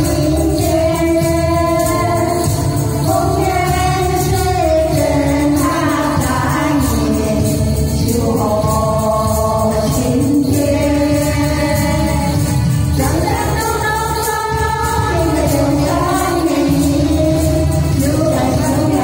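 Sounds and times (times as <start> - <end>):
backing track music: 0.0 - 19.0
tambourines jingling: 0.0 - 19.0
women singing through microphones: 0.0 - 19.0.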